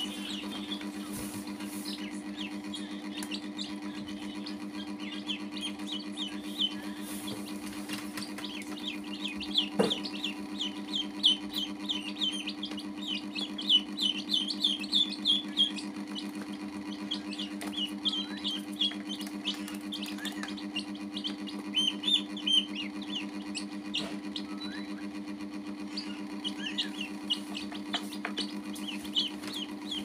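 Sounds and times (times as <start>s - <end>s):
chicks and ducklings peeping: 0.0s - 30.0s
steady low hum: 0.0s - 30.0s.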